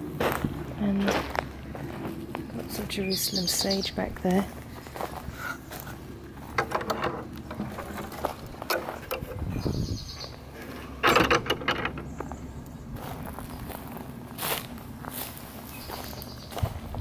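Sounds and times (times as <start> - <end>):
footsteps on dry grass: 0.0 - 6.6, 7.6 - 10.6, 12.7 - 17.0.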